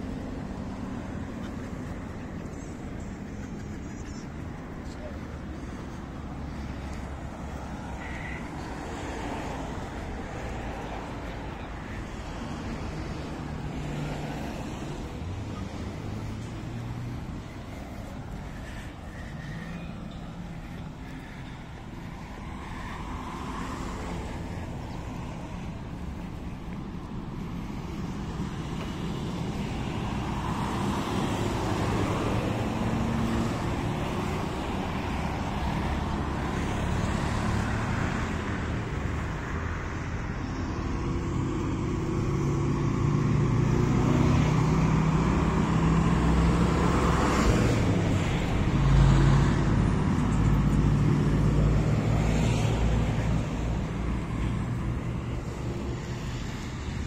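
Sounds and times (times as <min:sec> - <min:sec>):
cars driving on road: 0:00.0 - 0:57.0
heavy engine passing: 0:00.0 - 0:57.0.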